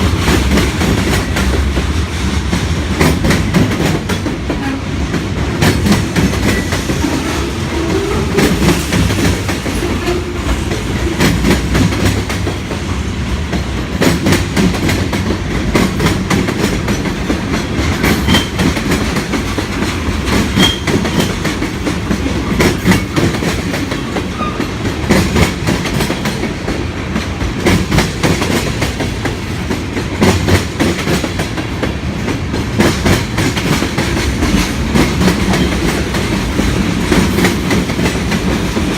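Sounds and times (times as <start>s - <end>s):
steel wheels rumbling: 0.0s - 38.9s.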